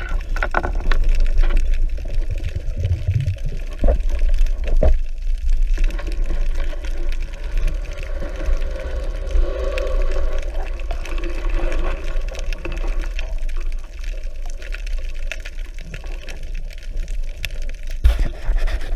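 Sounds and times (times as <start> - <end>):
clicks and crackles: 0.0 - 18.9
underwater water rumble: 0.0 - 18.9.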